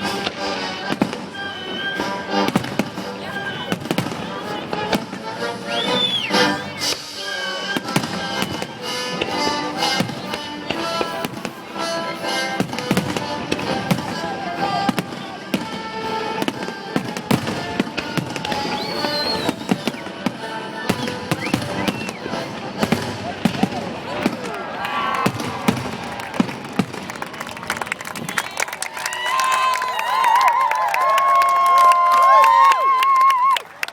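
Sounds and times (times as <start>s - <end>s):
fireworks bangs and crackles: 0.0s - 28.7s.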